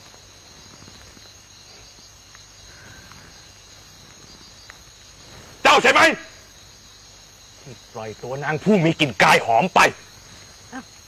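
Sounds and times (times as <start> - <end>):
crickets chirping: 0.0 - 11.0
faint background hiss: 0.0 - 11.0.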